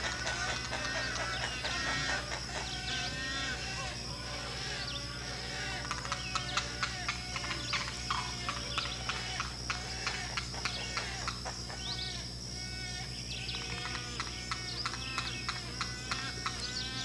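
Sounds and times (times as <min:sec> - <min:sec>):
birds chirping: 0:00.0 - 0:17.0
falling bird calls: 0:00.0 - 0:17.0.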